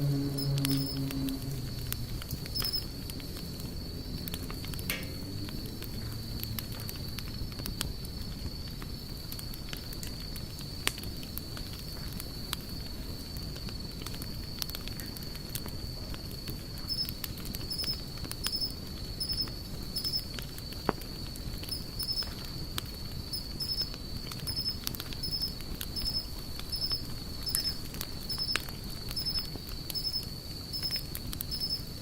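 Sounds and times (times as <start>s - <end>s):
high insect drone: 0.0s - 6.4s, 11.4s - 32.0s
campfire crackling: 0.0s - 32.0s
sharp pops and snaps: 0.5s - 32.0s.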